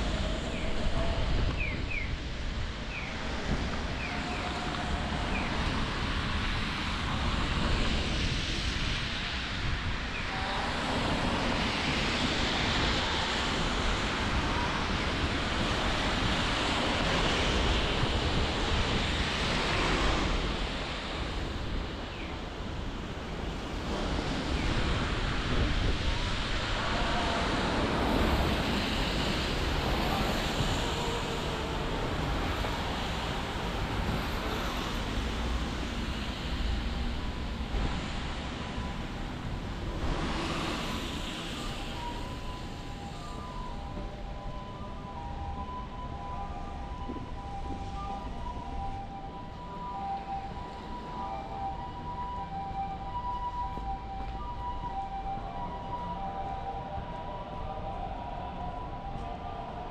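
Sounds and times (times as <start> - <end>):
traffic passing on wet road: 2.2 - 59.9.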